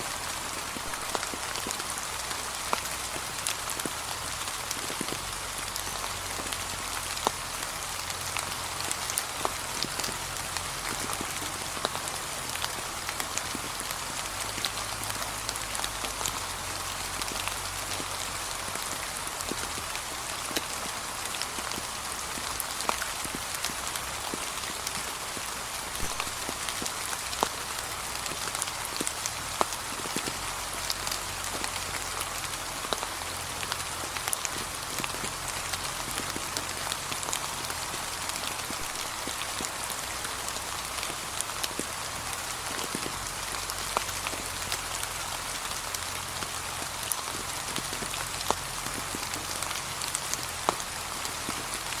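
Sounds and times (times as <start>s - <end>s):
light rain hiss: 0.0s - 52.0s.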